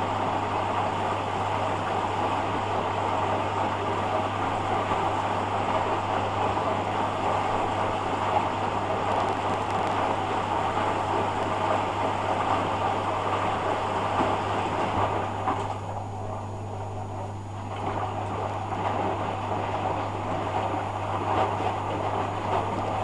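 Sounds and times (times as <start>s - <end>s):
washing machine hum: 0.0s - 23.0s
water and laundry churning: 0.0s - 23.0s.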